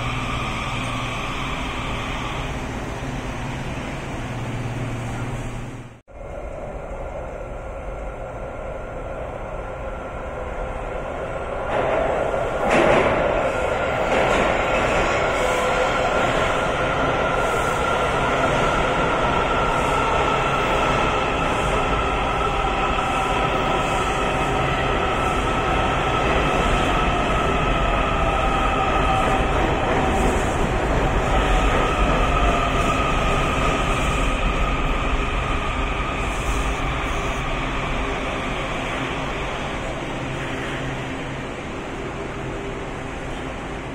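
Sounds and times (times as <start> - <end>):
train rumbling into station: 0.0 - 43.9.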